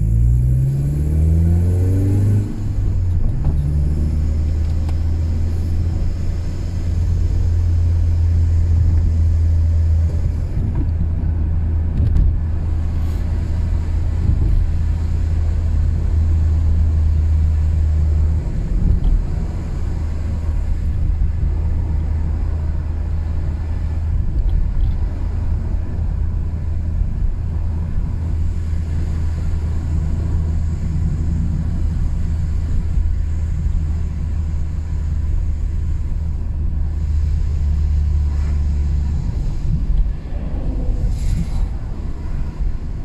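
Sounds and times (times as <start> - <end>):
car engine and road drone: 0.0 - 43.0.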